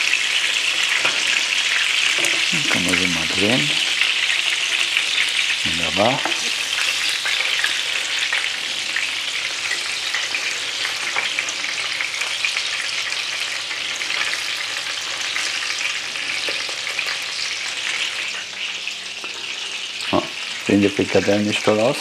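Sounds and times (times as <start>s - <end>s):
patties sizzling in hot oil: 0.0s - 22.0s.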